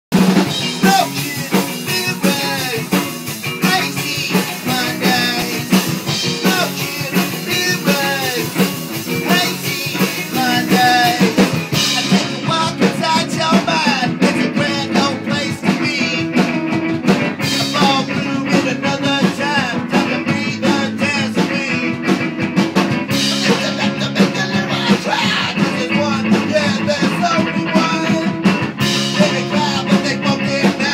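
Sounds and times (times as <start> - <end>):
up-tempo rock music: 0.1 - 30.9.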